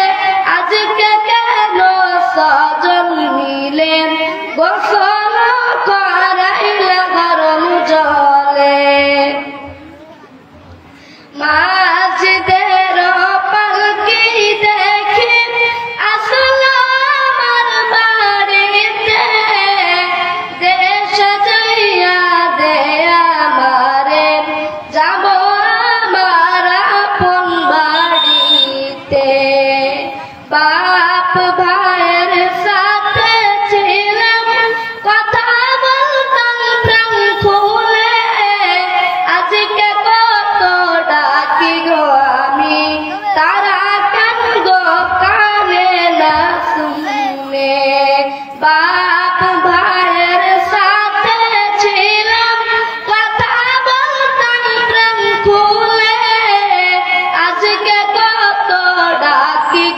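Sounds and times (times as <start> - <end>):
boy singing into a microphone: 0.0 - 59.9.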